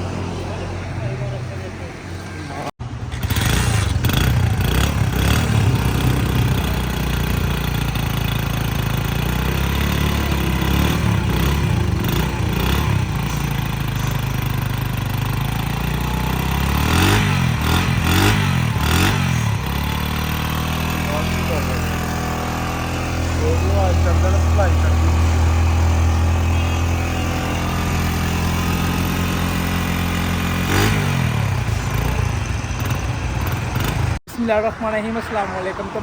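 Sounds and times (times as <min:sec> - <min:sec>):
motorcycle engine running: 0:02.8 - 0:34.2.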